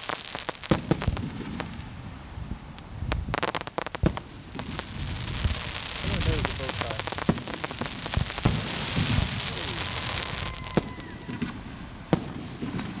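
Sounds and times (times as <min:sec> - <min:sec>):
sharp firework bangs: 0:00.0 - 0:01.9, 0:03.1 - 0:13.0
fireworks crackling: 0:00.0 - 0:13.0
low booms: 0:00.7 - 0:13.0.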